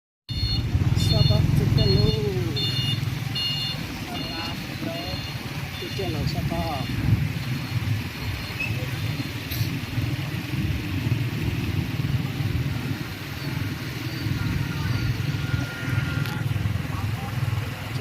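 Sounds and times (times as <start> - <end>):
vehicle engine and road noise: 0.3 - 18.0.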